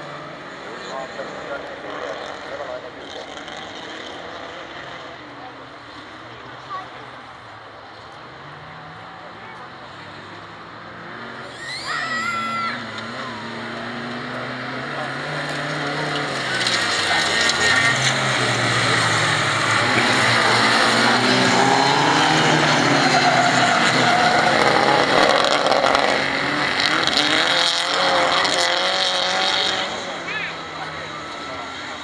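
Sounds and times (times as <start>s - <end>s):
car engines revving: 0.0s - 32.0s.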